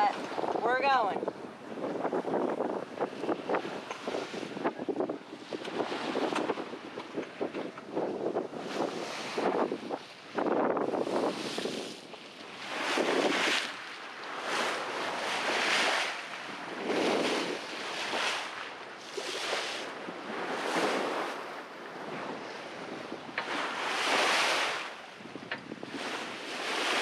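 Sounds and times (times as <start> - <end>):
sea water rushing and splashing: 0.0 - 27.0
wind buffeting microphone: 0.0 - 27.0.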